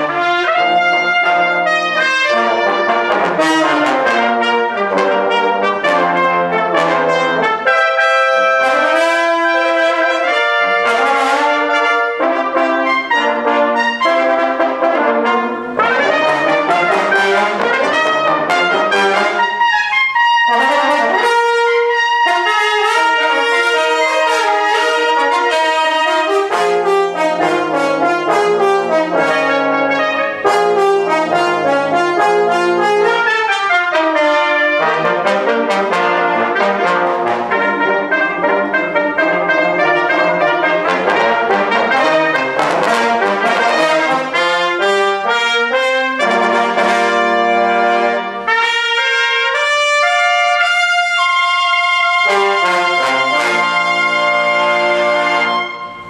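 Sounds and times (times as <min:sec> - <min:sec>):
brass quintet playing jazz: 0:00.0 - 0:56.0.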